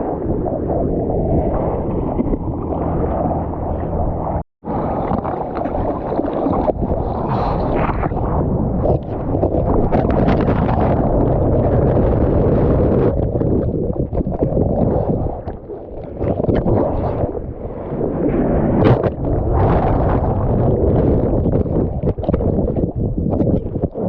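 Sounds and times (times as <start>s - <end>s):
wind buffeting microphone: 0.0s - 24.0s
water sloshing and splashing: 1.3s - 17.9s, 18.8s - 24.0s.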